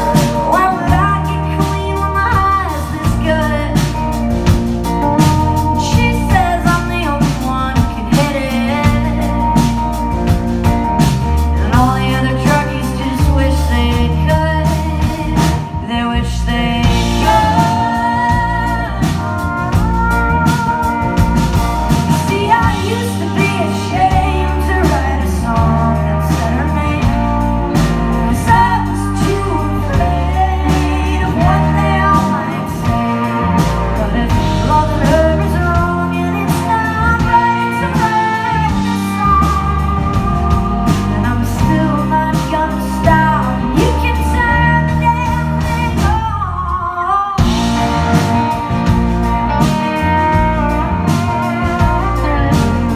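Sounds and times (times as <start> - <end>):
bass guitar: 0.0 - 52.9
drums: 0.0 - 52.9
electric guitar: 0.0 - 52.9
woman singing lead: 0.0 - 52.9.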